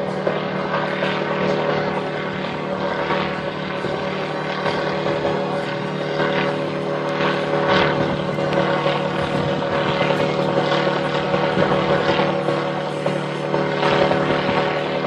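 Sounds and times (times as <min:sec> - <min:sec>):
gyroplane engine and propeller drone: 0:00.0 - 0:15.0
wind buffeting microphone: 0:00.0 - 0:15.0.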